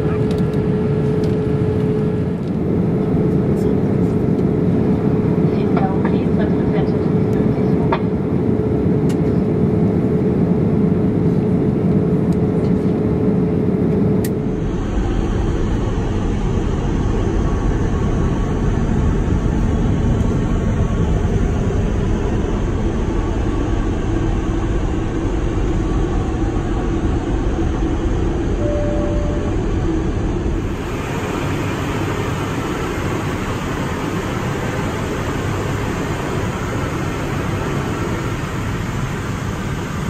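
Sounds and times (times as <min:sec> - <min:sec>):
airliner cabin engine noise: 0:00.0 - 0:40.0.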